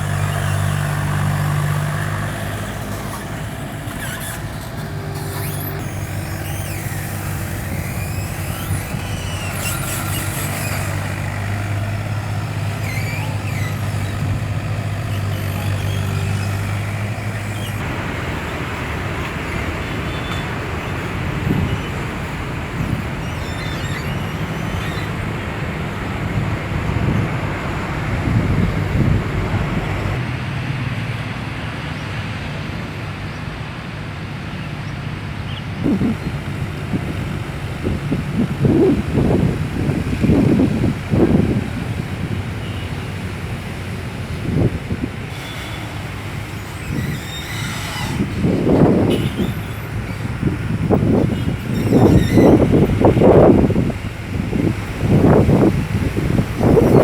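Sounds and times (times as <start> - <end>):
excavator diesel engine running: 0.0 - 31.6, 35.8 - 57.0.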